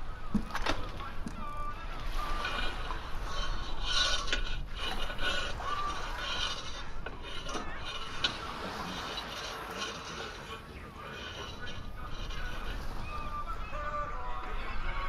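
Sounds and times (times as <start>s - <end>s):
wood creaking: 0.0s - 15.0s
wood rasping and scraping: 0.2s - 14.0s.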